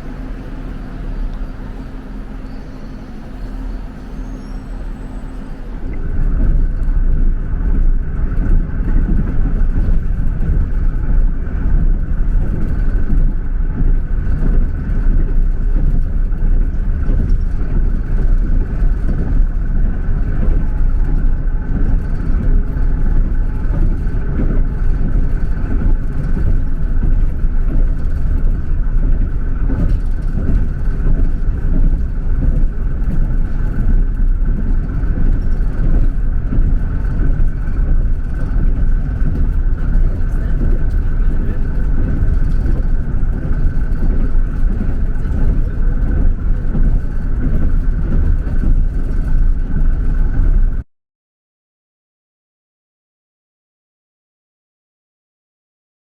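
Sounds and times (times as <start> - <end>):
faint constant whine: 0.0 - 50.8
vehicle engine rumble: 0.0 - 50.8.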